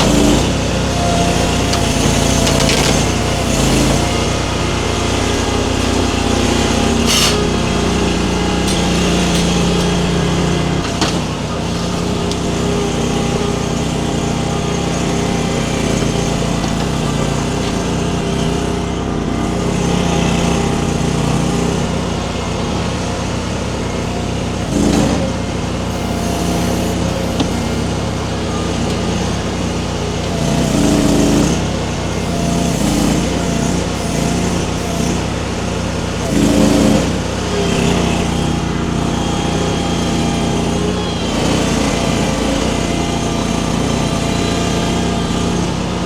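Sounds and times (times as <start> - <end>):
skid steer engine running: 0.0 - 46.0.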